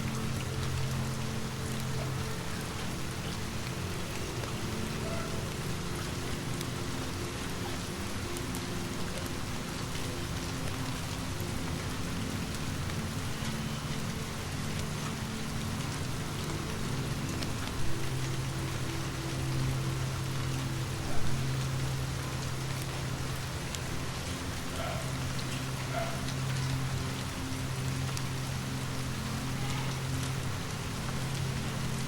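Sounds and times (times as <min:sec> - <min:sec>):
low steady drone: 0:00.0 - 0:32.0
steady rain falling: 0:00.0 - 0:32.0.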